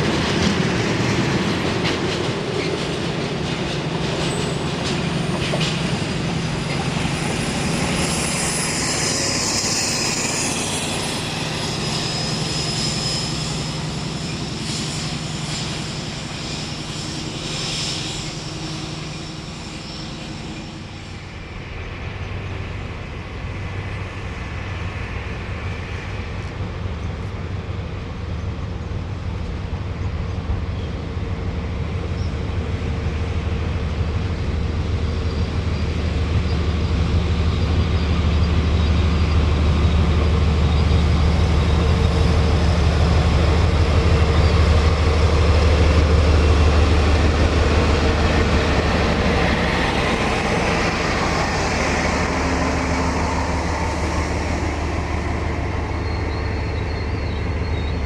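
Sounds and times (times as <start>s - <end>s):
train engine hum: 0.0s - 58.0s.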